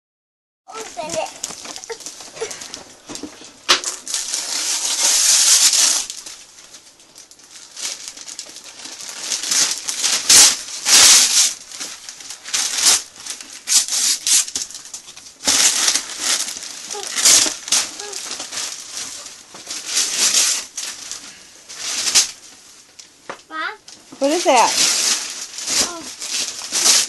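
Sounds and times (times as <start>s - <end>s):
paper rustling: 0.7s - 23.1s, 23.9s - 27.0s
wrapping paper ripping: 0.7s - 23.2s, 23.9s - 27.0s.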